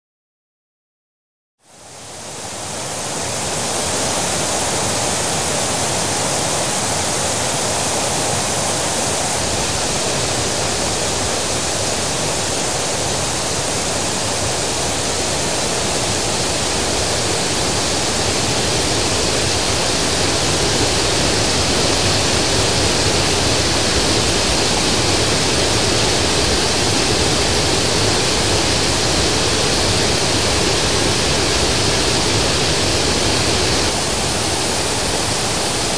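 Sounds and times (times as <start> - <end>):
waterfall rushing: 2.0 - 35.9.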